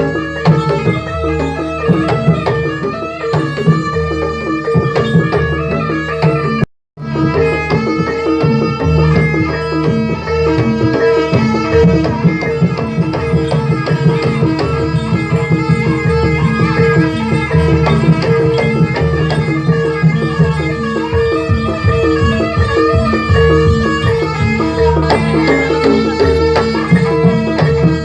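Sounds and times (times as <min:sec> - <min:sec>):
gamelan pitched percussion: 0:00.0 - 0:28.0
hand drums beating: 0:00.0 - 0:28.0
held tone: 0:00.0 - 0:28.0.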